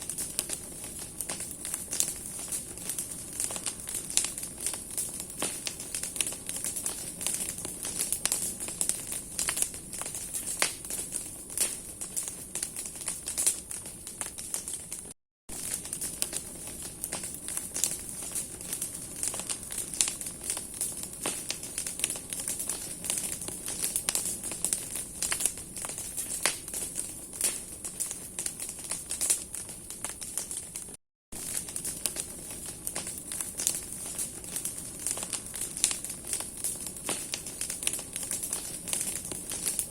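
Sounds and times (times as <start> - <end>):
bonfire wood crackling: 0.0 - 39.9.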